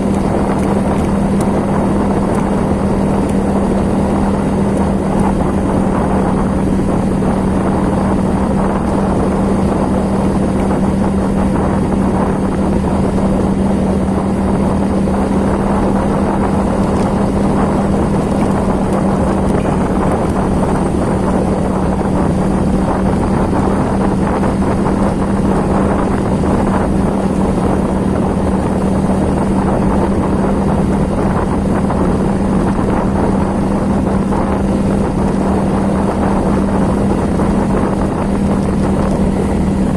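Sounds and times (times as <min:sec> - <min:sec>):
motor running steadily: 0:00.0 - 0:39.9.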